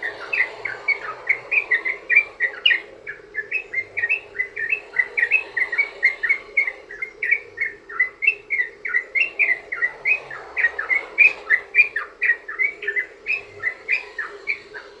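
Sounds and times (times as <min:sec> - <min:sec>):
bird chattering song: 0:00.0 - 0:15.0.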